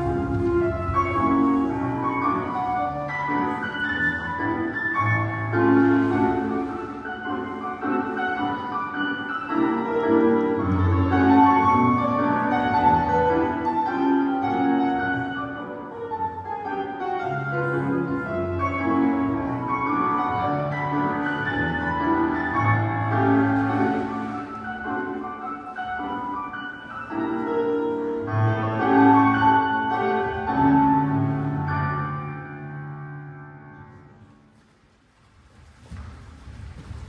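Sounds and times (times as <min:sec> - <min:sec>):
classical piano music: 0:00.0 - 0:34.7.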